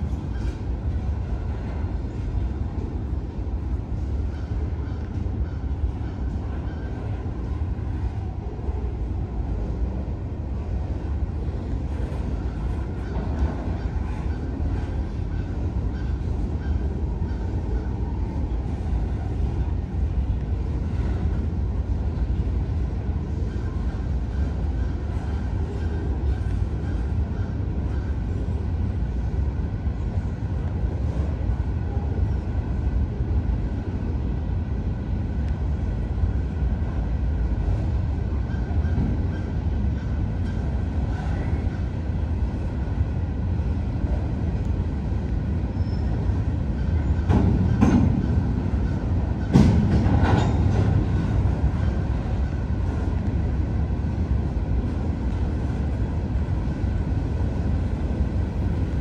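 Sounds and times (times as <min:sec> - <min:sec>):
loud train clanks: 0:00.0 - 0:59.0
train wheels rumbling on rails: 0:00.0 - 0:59.0.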